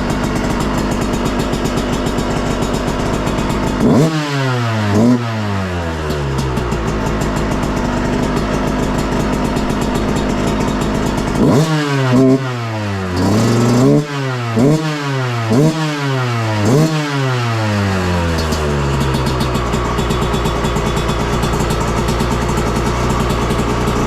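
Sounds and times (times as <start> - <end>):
two-stroke engine revving: 0.0 - 24.0.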